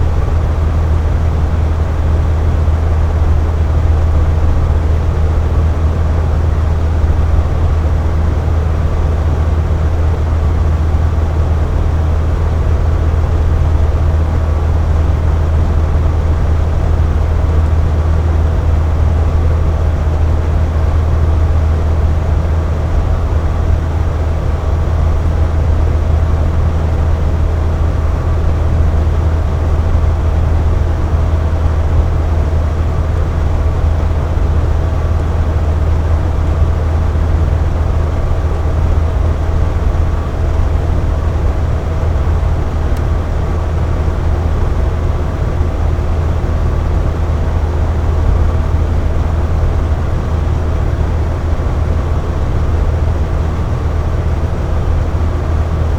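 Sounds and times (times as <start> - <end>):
air conditioner humming: 0.0 - 55.9
faint steady whine: 0.0 - 55.9.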